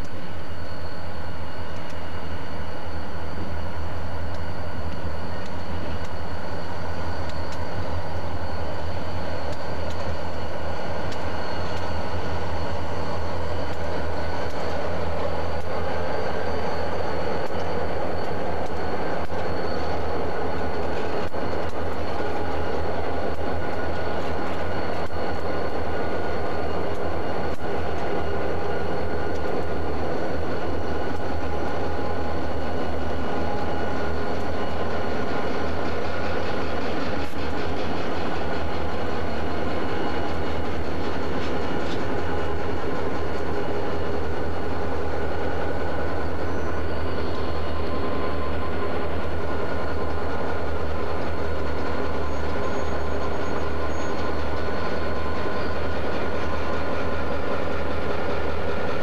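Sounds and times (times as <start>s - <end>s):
faint clicks from rails: 0.0s - 59.0s
locomotive engines droning: 0.0s - 59.0s.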